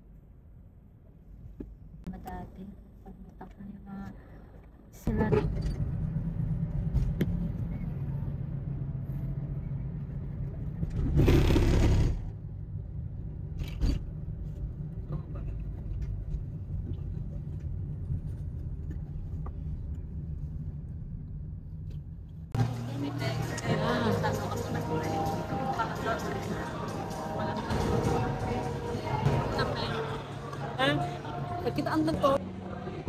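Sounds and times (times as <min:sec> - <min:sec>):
road noise inside moving vehicle: 0:00.0 - 0:33.0.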